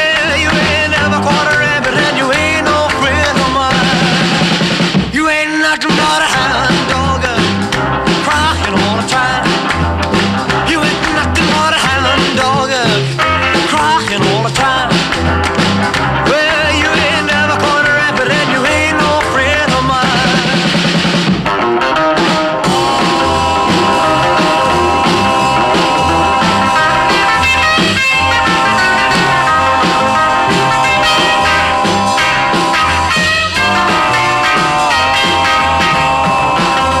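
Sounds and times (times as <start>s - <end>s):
rock and roll music: 0.0s - 37.0s.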